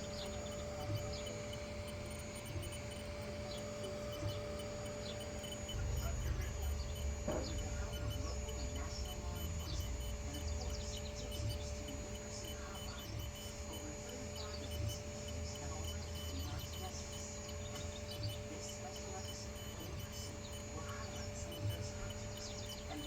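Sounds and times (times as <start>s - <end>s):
faint irregular ticking: 0.0s - 23.0s
laser engraver humming and whining: 0.0s - 23.0s.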